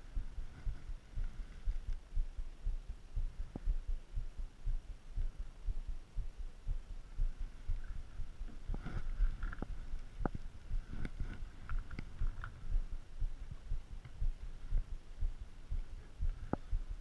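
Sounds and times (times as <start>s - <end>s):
muffled low thumping: 0.0s - 17.0s.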